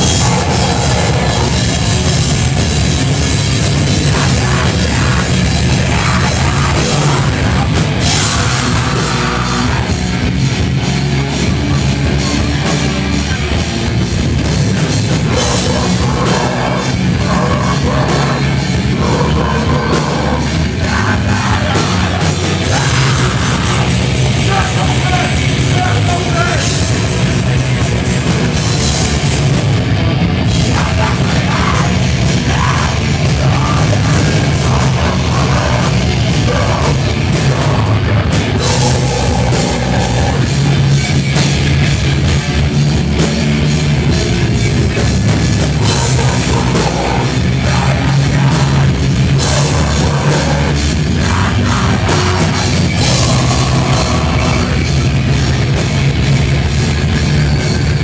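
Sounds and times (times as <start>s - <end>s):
distorted electric guitar: 0.0s - 58.0s
drum kit: 0.0s - 58.0s.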